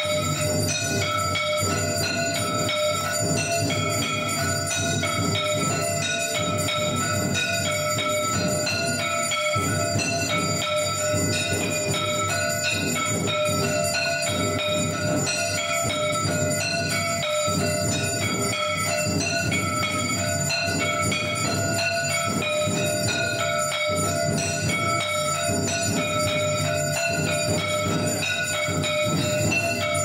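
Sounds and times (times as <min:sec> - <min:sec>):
temple bells ringing rapidly: 0:00.0 - 0:30.0.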